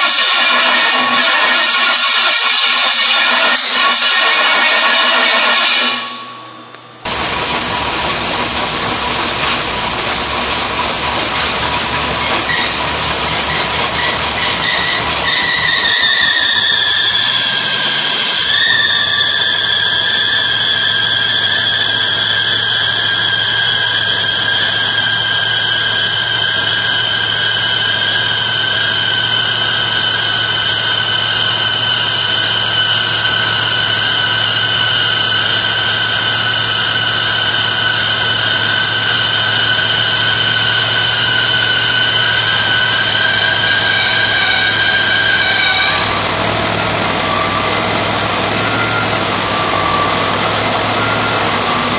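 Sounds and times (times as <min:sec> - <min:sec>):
high-pitched whine: 0:00.0 - 0:51.9
engine running: 0:06.7 - 0:51.9.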